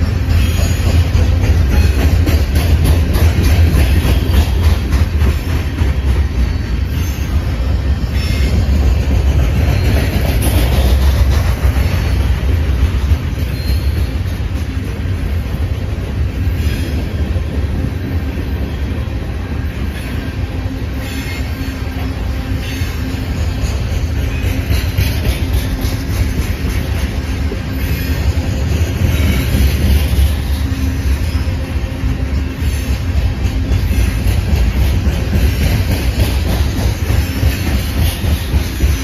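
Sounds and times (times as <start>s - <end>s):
steel wheels rumbling on rail: 0.0s - 39.0s.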